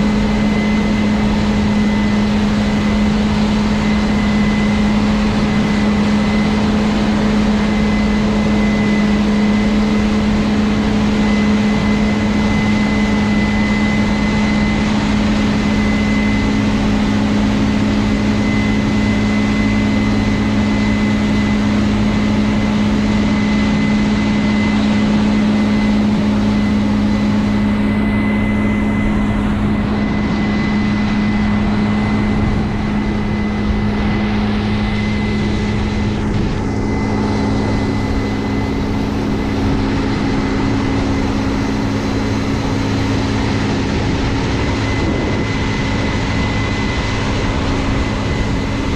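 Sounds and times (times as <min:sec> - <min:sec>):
diesel machinery low hum: 0:00.0 - 0:48.9
high steady whine: 0:00.0 - 0:48.9.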